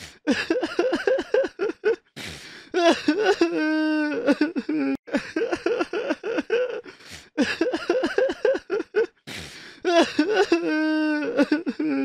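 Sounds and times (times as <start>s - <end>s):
person crying and sobbing: 0.0s - 12.0s.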